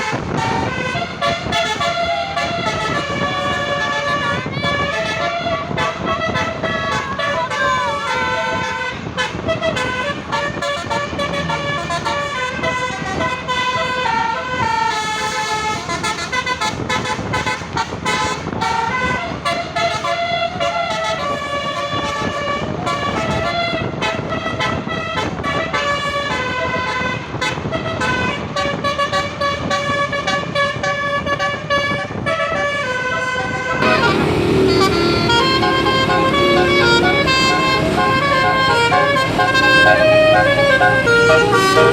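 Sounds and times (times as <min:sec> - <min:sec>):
bus horn playing melody: 0:00.0 - 0:41.9.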